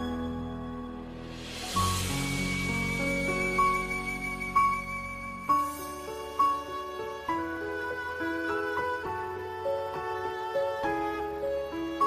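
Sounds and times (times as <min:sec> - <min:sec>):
slow sad instrumental music: 0:00.0 - 0:12.0.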